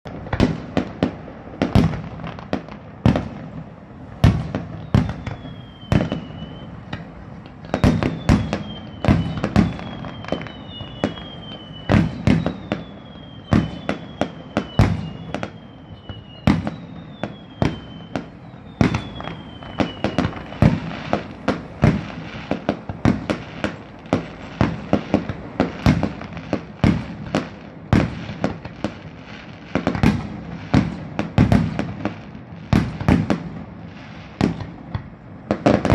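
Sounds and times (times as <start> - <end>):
falling firework whistle: 0.1 - 35.9.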